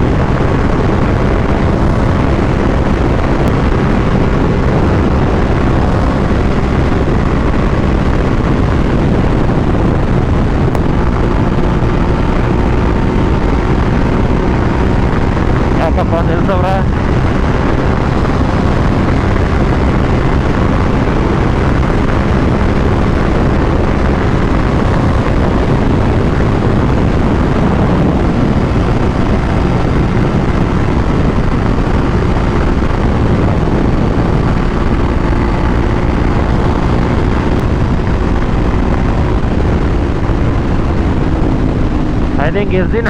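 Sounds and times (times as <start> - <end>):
motorcycle engine at high speed: 0.0 - 43.0
wind rush on microphone: 0.0 - 43.0.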